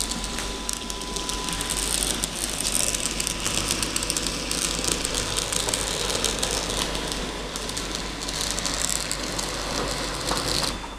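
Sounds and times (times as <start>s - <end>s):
model tram motor whirring: 0.0s - 10.9s
wheels clicking on rails: 0.0s - 10.9s.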